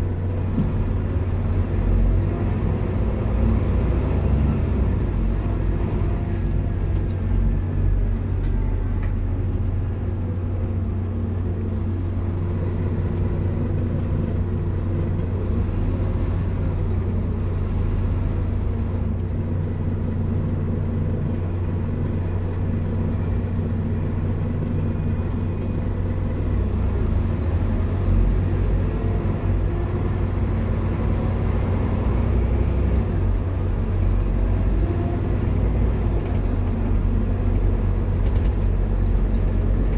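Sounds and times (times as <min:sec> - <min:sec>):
bus diesel engine humming: 0:00.0 - 0:39.9
road noise: 0:00.0 - 0:39.9.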